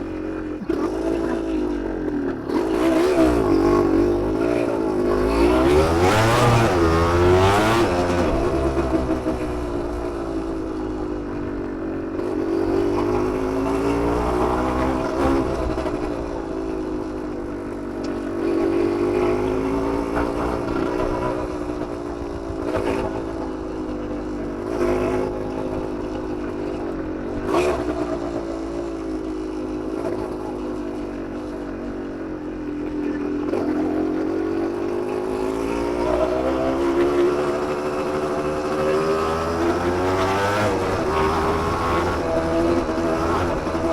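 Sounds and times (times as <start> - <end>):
two-stroke motorcycle engine revving: 0.0 - 43.9.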